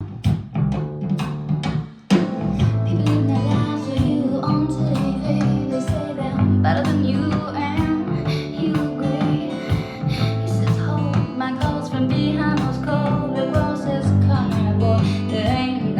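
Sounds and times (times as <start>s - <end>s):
song with guitar and beat: 1.2s - 15.9s.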